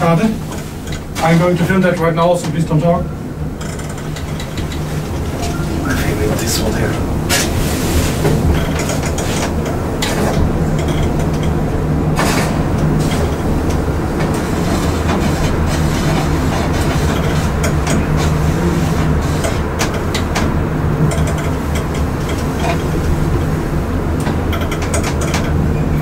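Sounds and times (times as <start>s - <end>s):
elevator car rumbling: 0.0s - 26.0s.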